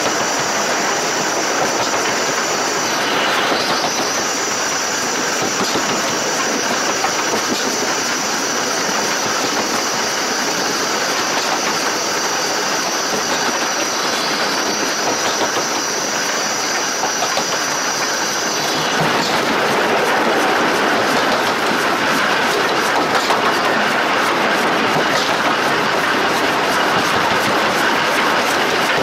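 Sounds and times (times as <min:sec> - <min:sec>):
high-pitched steam hiss: 0:00.0 - 0:29.0
rail noise: 0:00.0 - 0:29.0
steam locomotive running gear clatter: 0:00.0 - 0:29.0.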